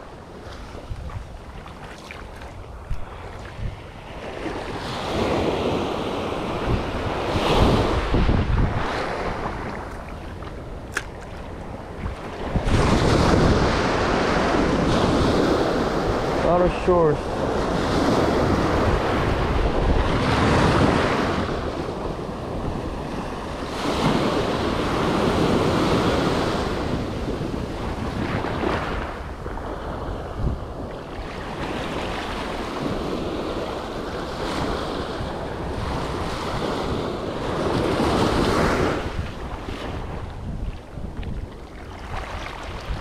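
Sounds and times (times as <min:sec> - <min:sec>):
ocean surf breaking on beach: 0:00.0 - 0:43.0
wind buffeting microphone: 0:00.0 - 0:43.0.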